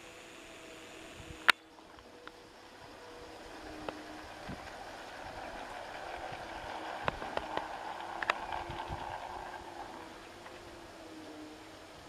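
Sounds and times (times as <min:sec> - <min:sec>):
model train whirring rattle: 0:00.0 - 0:12.0
wheels clicking over rail joints: 0:00.6 - 0:12.0.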